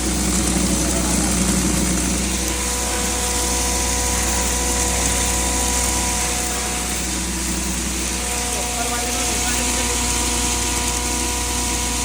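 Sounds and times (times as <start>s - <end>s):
feed grinder running: 0.0s - 12.0s.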